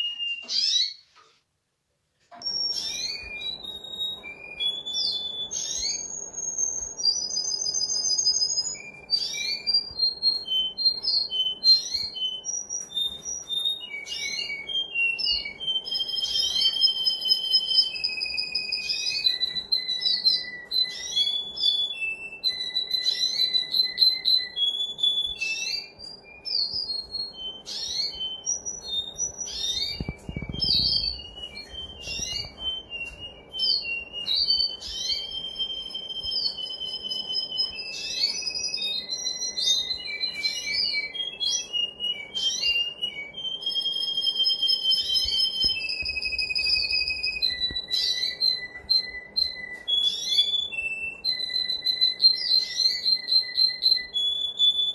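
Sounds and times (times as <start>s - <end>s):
canary singing: 0.0s - 1.2s, 2.4s - 54.9s.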